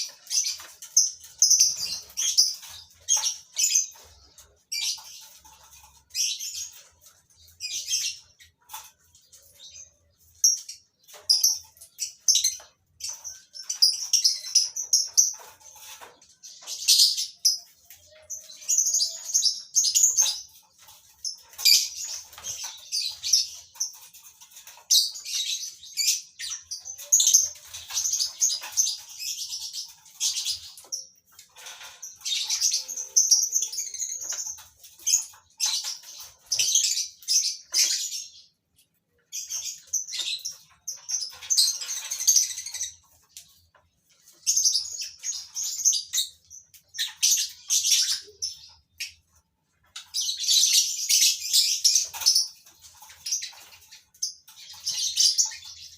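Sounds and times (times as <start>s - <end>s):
lovebirds chattering: 0.0s - 55.9s.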